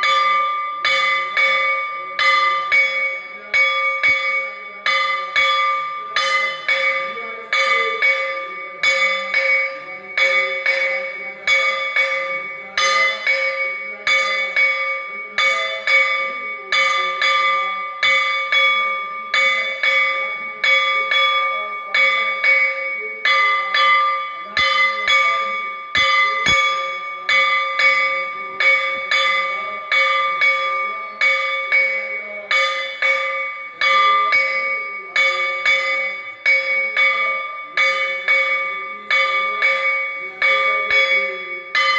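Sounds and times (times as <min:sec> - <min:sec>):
metal bell ringing: 0:00.0 - 0:41.9.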